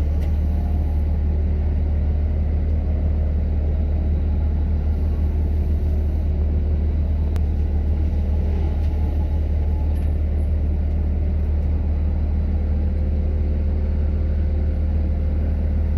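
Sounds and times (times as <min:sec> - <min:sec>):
diesel engine rumbling: 0:00.0 - 0:15.9.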